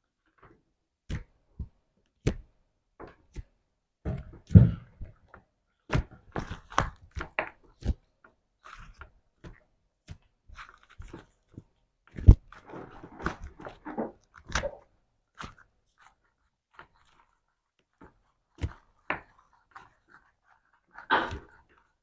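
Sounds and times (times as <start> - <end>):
slime squelching and popping: 4.1 - 22.0.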